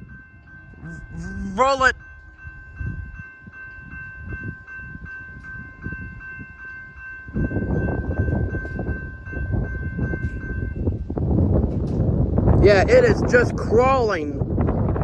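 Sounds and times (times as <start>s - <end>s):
railroad crossing bell ringing: 0.0s - 12.2s
freight train rumble: 0.0s - 15.0s.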